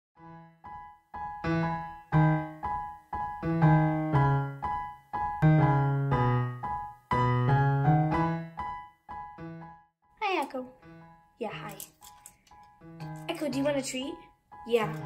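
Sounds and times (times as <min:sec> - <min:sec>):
piano music: 0:00.2 - 0:15.0.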